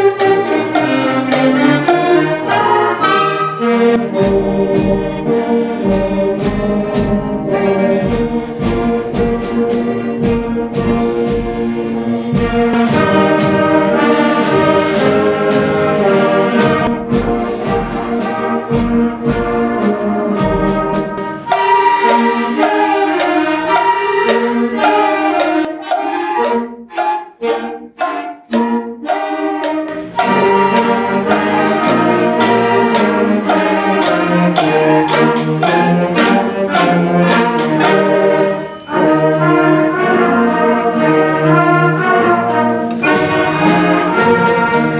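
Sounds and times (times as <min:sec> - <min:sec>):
concert band playing: 0:00.0 - 0:25.6, 0:29.9 - 0:44.9
drum strokes: 0:00.0 - 0:44.9.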